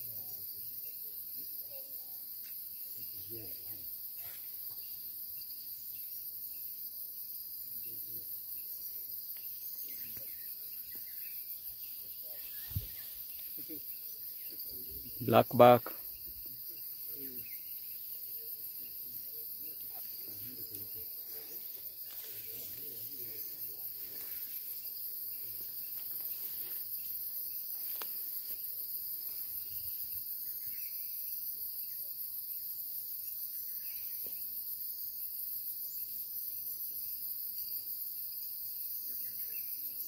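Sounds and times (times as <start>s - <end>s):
forest insects chorus: 0.0s - 40.0s.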